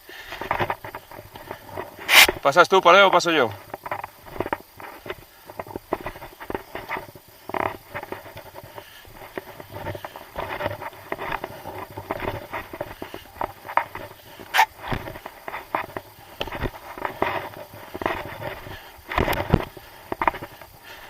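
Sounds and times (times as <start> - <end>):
boots and gear on rock: 0.0 - 21.0.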